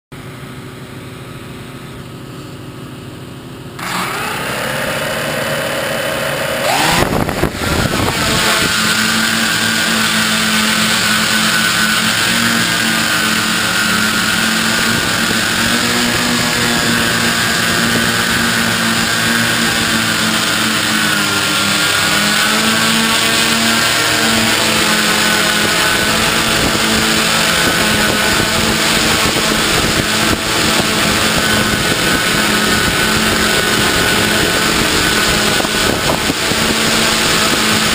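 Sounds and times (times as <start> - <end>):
drone propeller hum: 0.2 - 37.9.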